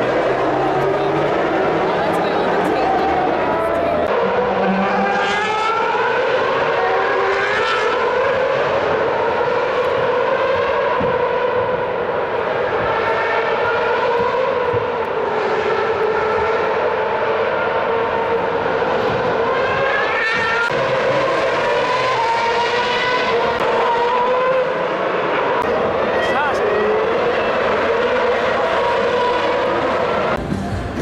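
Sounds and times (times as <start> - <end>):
racing car engines at high revs: 0.0 - 31.0.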